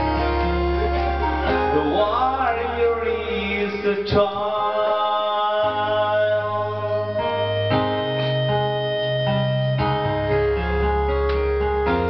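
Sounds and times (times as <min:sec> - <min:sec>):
organ-like keyboard chords: 0:00.0 - 0:12.0.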